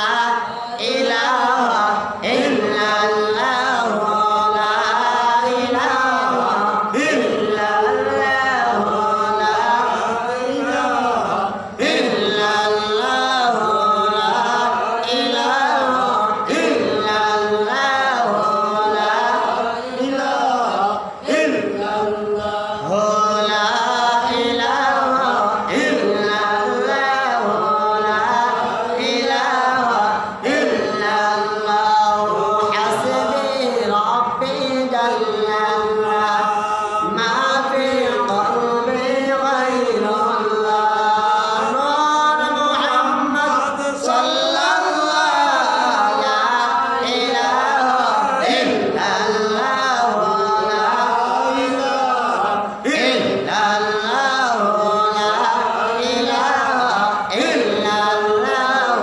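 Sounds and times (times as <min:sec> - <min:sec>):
man chanting into a microphone: 0:00.0 - 0:59.0.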